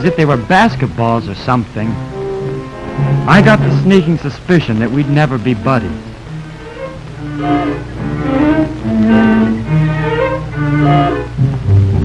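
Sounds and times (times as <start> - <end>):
orchestral music with bowed strings: 0.0 - 12.0.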